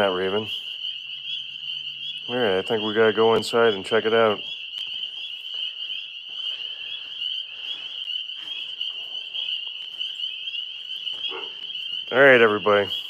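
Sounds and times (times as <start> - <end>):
tree frogs trilling: 0.0 - 13.0.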